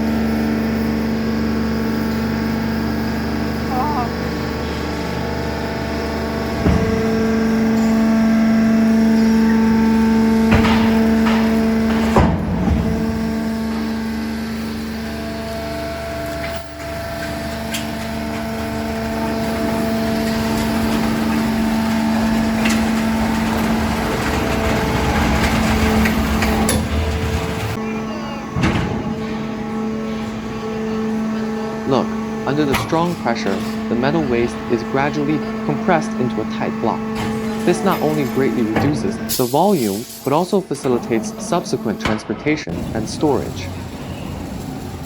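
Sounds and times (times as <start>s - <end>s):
hydraulic pump hum: 0.0s - 45.0s.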